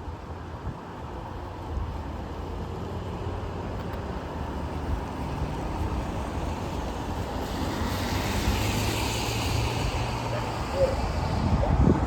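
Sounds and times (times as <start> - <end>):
road traffic rushing: 0.1 - 12.0.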